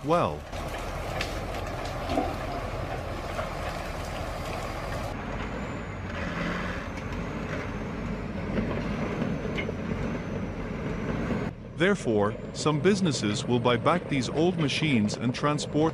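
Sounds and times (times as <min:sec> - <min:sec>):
heavy diesel engine running: 0:00.0 - 0:15.9.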